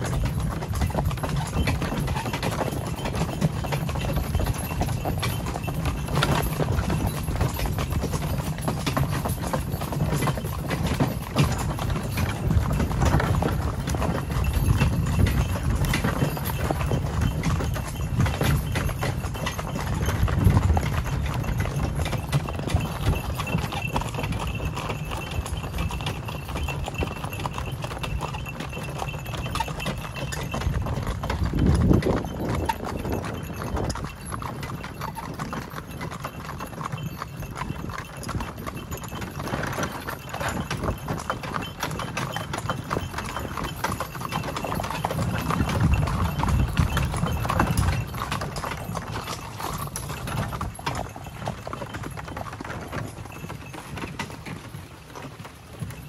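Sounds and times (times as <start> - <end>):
horses clip-clopping on gravel: 0.0 - 56.0.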